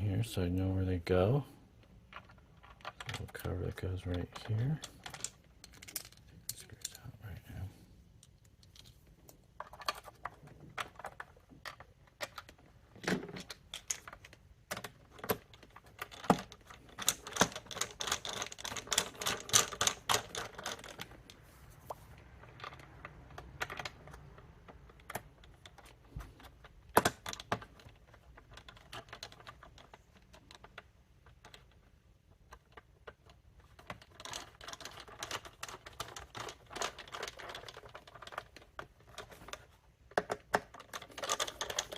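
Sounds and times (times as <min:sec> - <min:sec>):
plastic parts clicking and knocking: 0:01.3 - 0:41.9.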